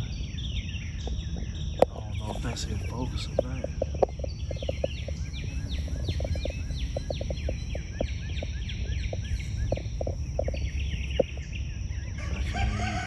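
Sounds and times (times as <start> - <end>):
low rumble: 0.0 - 13.0
songbird calling: 0.0 - 13.0.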